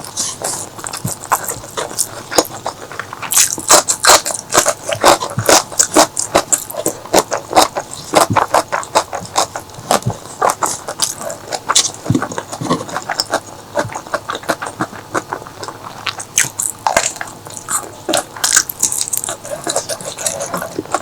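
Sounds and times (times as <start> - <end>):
person chewing and biting: 0.0 - 21.0.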